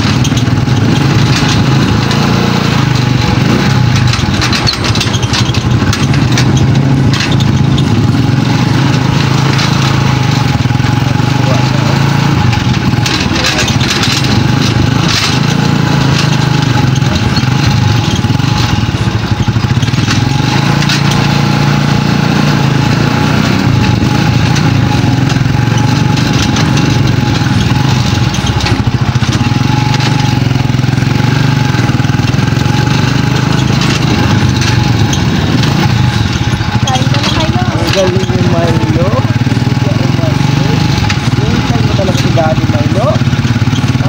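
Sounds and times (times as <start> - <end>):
motorcycle engine running loudly: 0.0 - 44.0.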